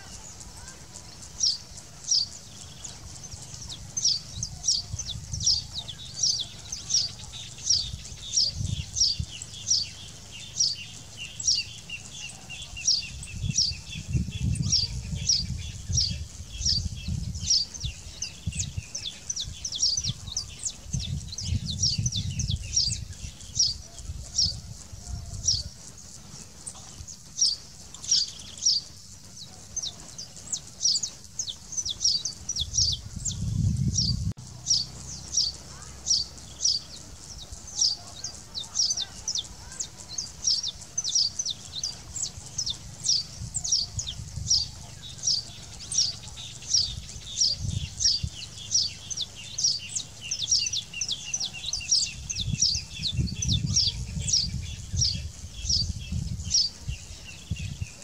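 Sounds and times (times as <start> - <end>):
finch chirping: 0.0 - 58.0.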